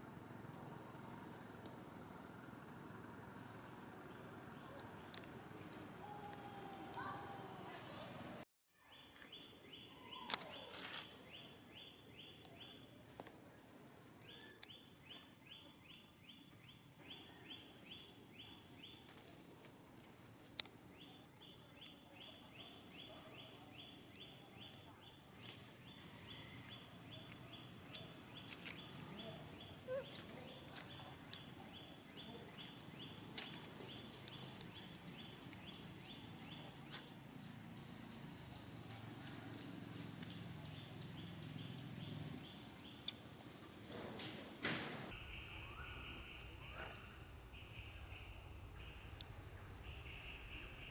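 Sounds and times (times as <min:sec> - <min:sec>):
insect chorus pulsed chirping: 0:00.0 - 0:08.1, 0:09.2 - 0:46.5.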